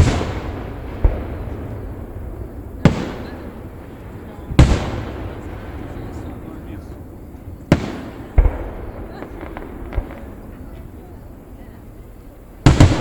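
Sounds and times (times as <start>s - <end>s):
firework shells booming: 0.0s - 13.0s.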